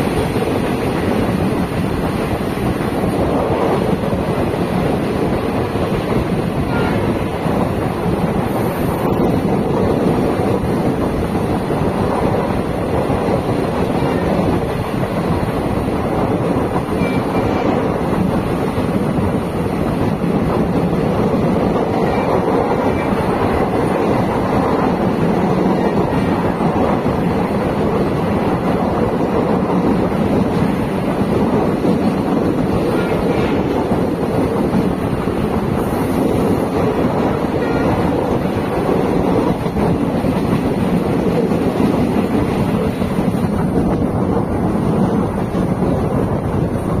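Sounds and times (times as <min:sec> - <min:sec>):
wheels rumbling on rail: 0:00.0 - 0:47.0.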